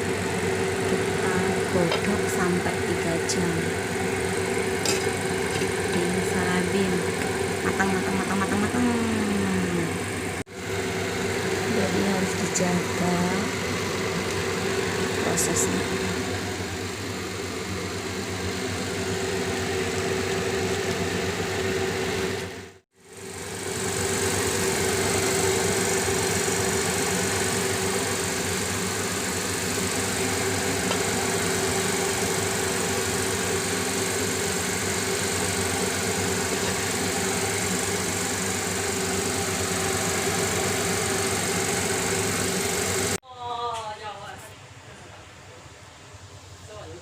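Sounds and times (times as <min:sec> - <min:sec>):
range hood fan humming: 0:00.0 - 0:47.0.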